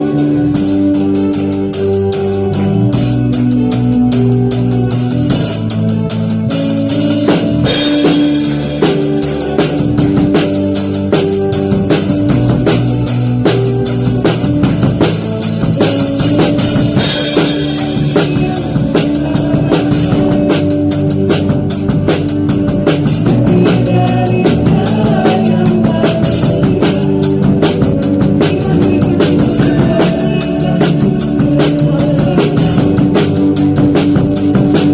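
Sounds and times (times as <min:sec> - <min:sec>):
worship band playing: 0:00.0 - 0:34.9.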